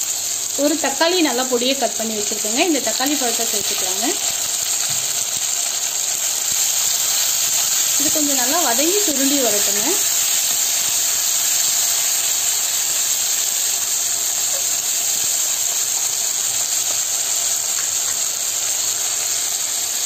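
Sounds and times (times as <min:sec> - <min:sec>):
onion and tomato sizzling in oil: 0:00.0 - 0:20.0.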